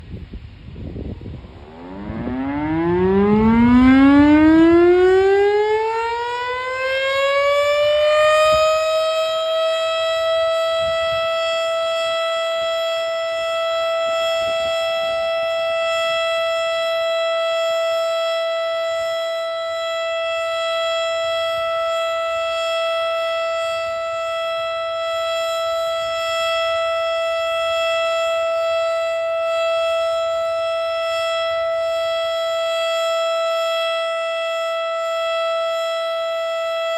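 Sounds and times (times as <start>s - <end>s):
warning siren winding up: 1.2s - 36.9s.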